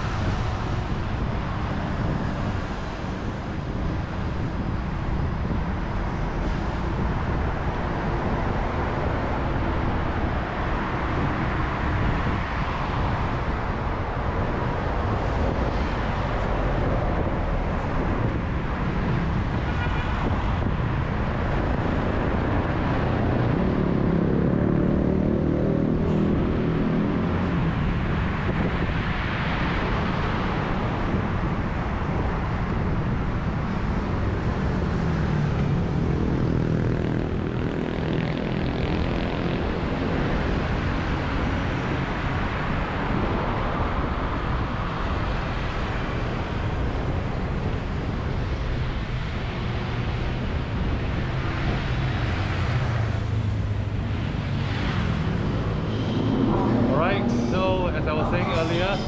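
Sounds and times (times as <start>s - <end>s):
vehicle rumble: 0.0s - 59.0s.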